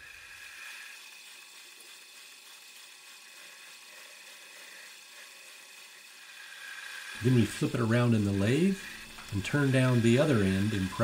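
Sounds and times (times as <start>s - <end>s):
metal lathe whirring: 0.0s - 11.0s.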